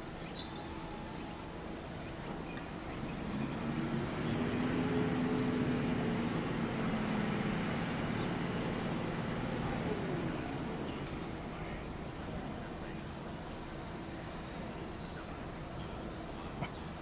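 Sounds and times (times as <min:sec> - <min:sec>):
electric train passing: 0:00.0 - 0:16.5.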